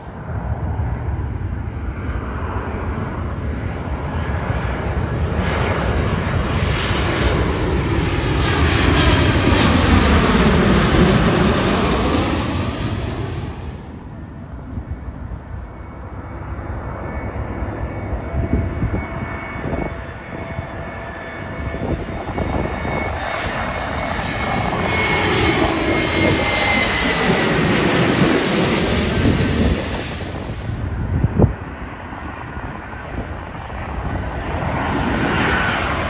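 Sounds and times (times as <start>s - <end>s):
jet airliner passing overhead: 0.0s - 36.0s.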